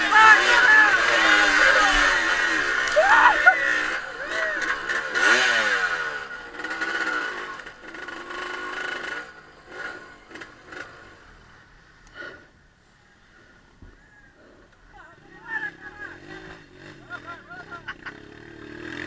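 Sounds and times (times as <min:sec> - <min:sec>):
vehicle engine revving: 0:00.0 - 0:12.4, 0:15.5 - 0:19.0.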